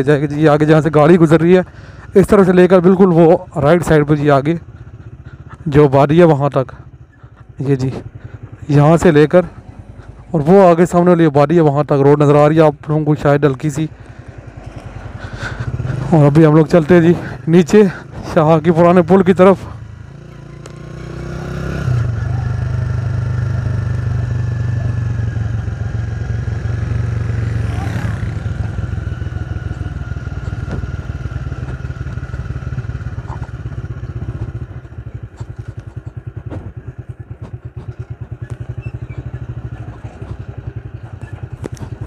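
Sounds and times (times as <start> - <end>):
rattling on rough road: 0.0 - 42.0
vehicle engine running at low revs: 0.0 - 42.0.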